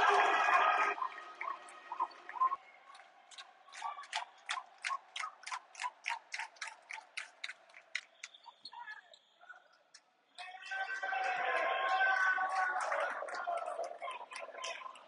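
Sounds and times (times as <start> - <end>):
rhythmic hand clapping: 0.0 - 8.6, 9.9 - 15.0.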